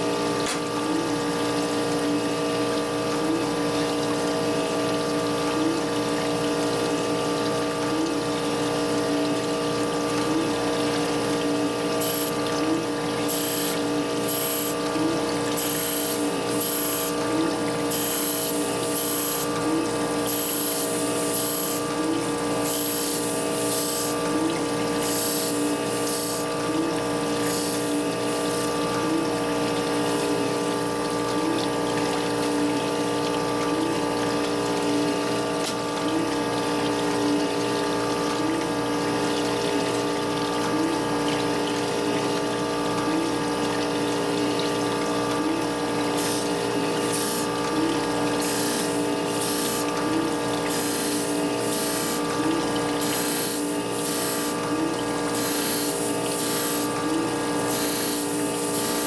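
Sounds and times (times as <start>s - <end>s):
coolant splashing: 0.0s - 59.0s
grinder motor and pump humming: 0.0s - 59.0s.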